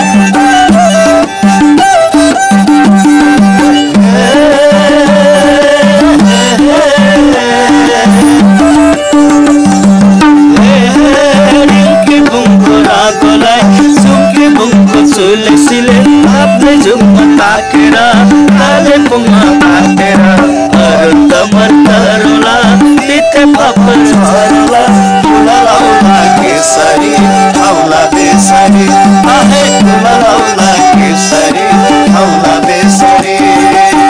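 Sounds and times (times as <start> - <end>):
bowed string folk tune: 0.0 - 34.0.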